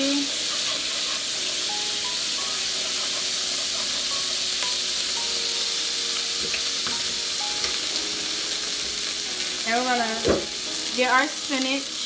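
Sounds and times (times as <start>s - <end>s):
paste sizzling in a pan: 0.0s - 12.0s.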